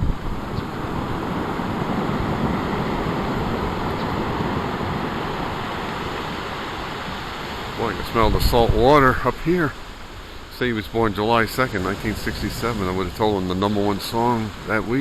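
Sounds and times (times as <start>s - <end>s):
surf waves breaking: 0.0s - 15.0s
wind buffeting microphone: 0.0s - 15.0s.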